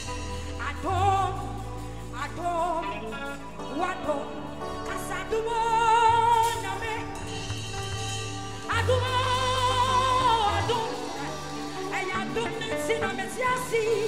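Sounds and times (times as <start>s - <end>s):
bass: 0.0s - 14.0s
electric guitar: 0.0s - 14.0s
keyboard: 0.0s - 14.0s
person singing gospel: 0.0s - 14.0s.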